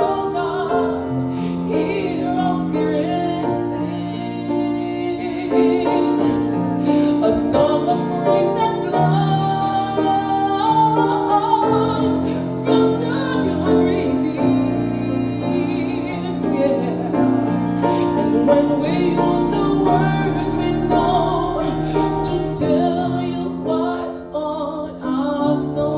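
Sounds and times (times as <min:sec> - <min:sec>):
slow piano ballad: 0:00.0 - 0:25.9.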